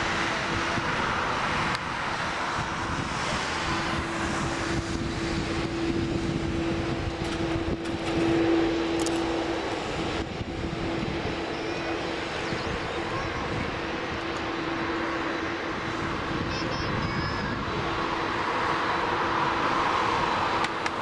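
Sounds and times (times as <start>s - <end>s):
jet engines running at low thrust: 0.0s - 21.0s.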